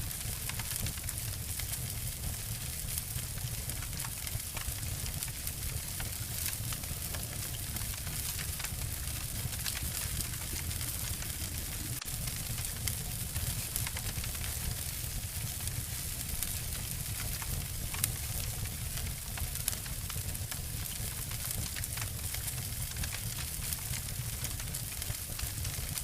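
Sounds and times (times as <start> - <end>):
low fire rumble: 0.0 - 26.0
wood fire crackling: 0.0 - 26.0.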